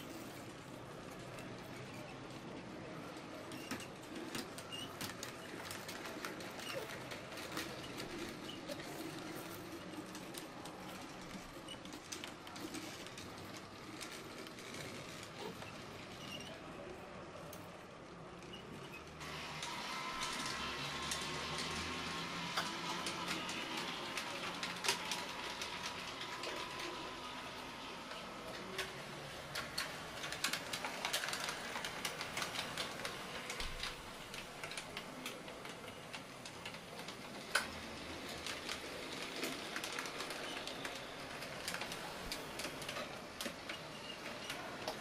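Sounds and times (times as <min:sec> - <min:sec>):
faint model tram motor hum: 0:00.0 - 0:45.0
small wheels clicking on track: 0:00.0 - 0:45.0.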